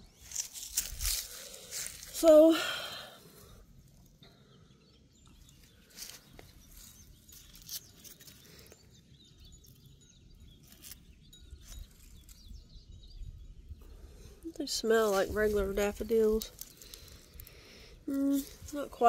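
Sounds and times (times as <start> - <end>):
distant birds chirping: 0.0 - 19.0.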